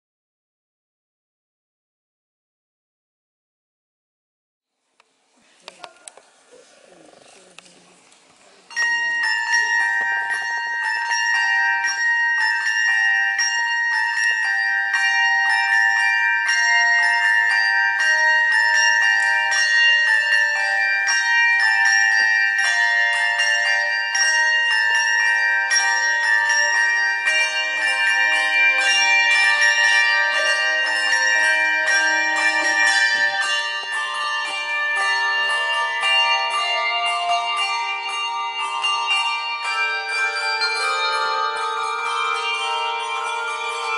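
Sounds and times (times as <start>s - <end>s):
handbell choir ringing: 8.7s - 43.9s.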